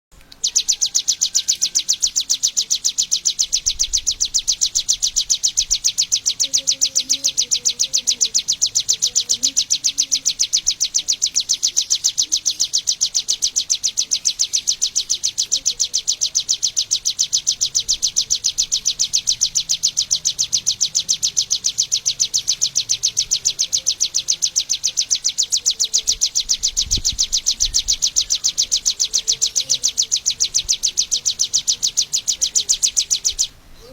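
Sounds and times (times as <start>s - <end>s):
prinia chirping: 0.1s - 33.9s.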